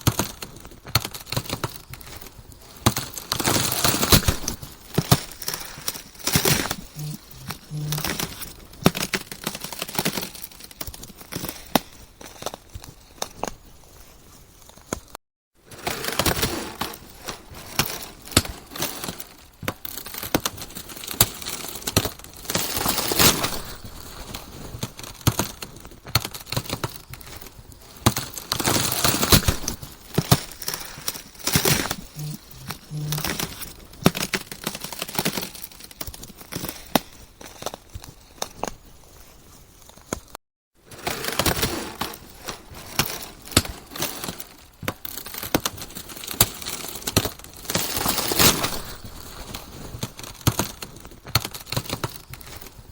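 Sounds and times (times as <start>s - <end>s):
ice cracking and crunching: 0.0s - 15.1s, 15.7s - 52.9s.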